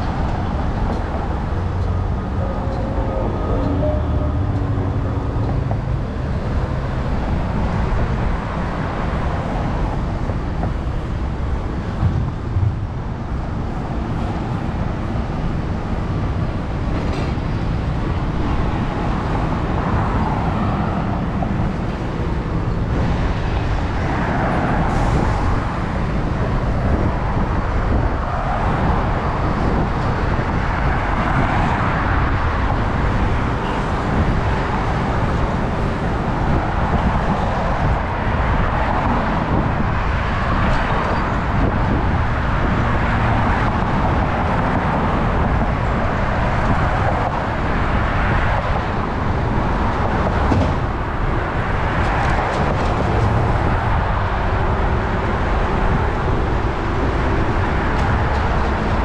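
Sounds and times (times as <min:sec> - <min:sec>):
road traffic rumble: 0:00.0 - 0:59.0
vehicles passing: 0:00.0 - 0:59.0.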